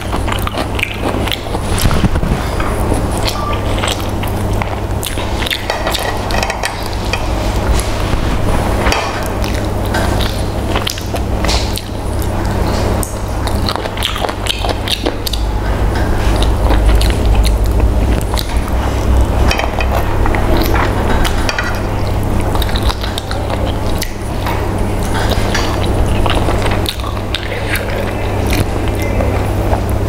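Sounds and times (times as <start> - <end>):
chewing and lip smacking: 0.0 - 30.0
steady low hum: 0.0 - 30.0.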